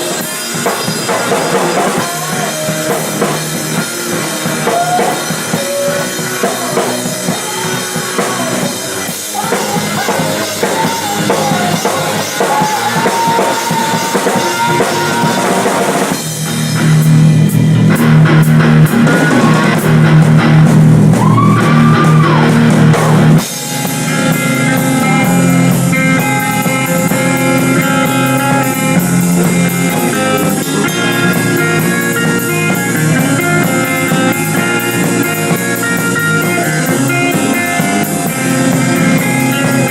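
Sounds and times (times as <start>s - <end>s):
drum kit: 0.0s - 39.9s
rock band playing: 0.0s - 39.9s
sustained guitar chords: 0.0s - 39.9s.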